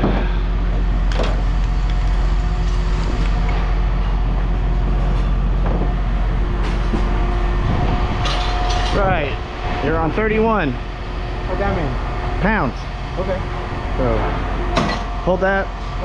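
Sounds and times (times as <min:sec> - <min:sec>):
machinery rumbling: 0:00.0 - 0:16.0.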